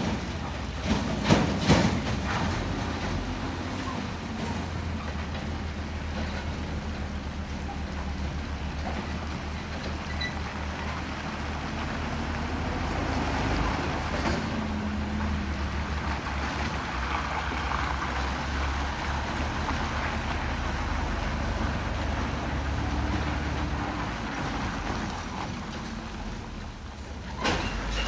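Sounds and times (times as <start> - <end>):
low diesel engine hum: 0.0 - 28.0.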